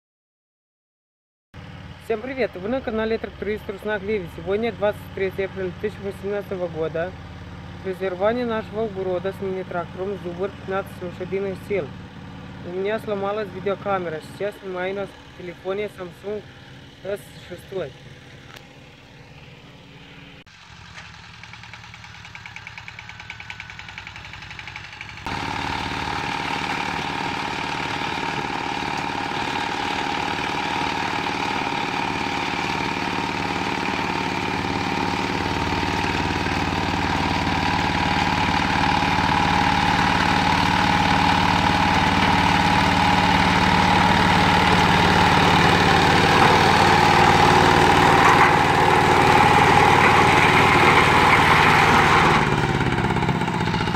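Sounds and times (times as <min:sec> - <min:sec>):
tractor engine running under load: 0:01.6 - 0:53.9.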